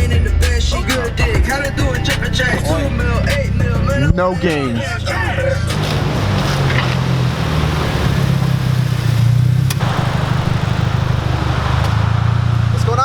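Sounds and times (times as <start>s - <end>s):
car engine and exhaust drone: 0.0s - 13.0s.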